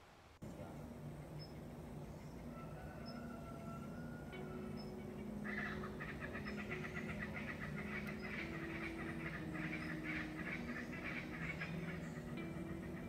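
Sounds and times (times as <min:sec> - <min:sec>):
birds chattering chorus: 0:00.5 - 0:13.0.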